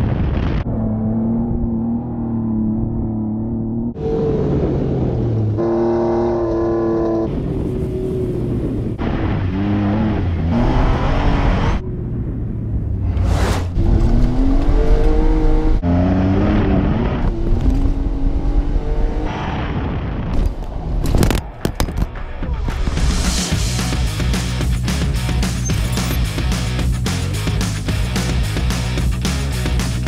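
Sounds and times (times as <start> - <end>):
car engine revving off-road: 0.6 - 20.3, 23.4 - 30.0.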